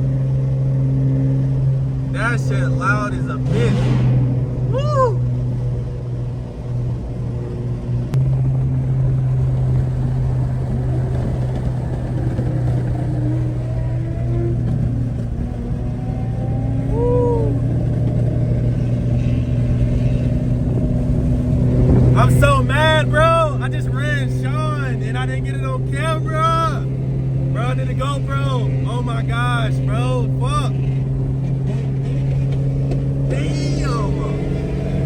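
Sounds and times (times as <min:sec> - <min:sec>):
car engine and exhaust droning: 0:00.0 - 0:35.0.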